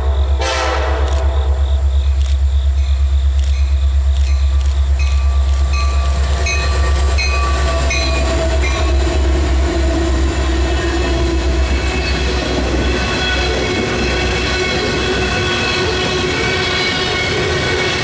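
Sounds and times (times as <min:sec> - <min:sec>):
diesel locomotive engines rumbling: 0:00.0 - 0:18.0
train cars rolling on steel wheels: 0:02.0 - 0:18.0.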